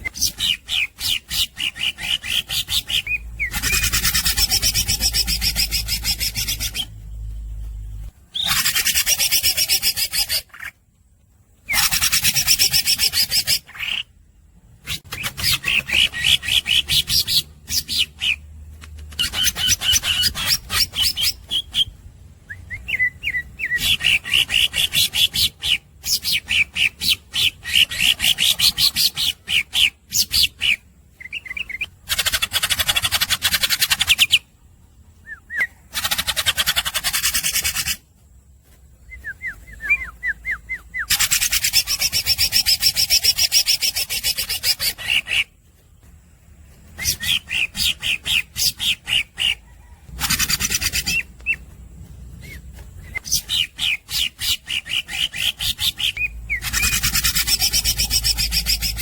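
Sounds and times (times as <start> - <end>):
bird singing rapid chattering notes: 0.0 - 10.8, 11.5 - 59.0.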